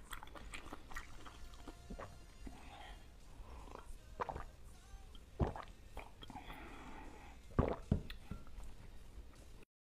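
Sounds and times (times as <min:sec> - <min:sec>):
person sipping a drink: 0:00.0 - 0:09.0.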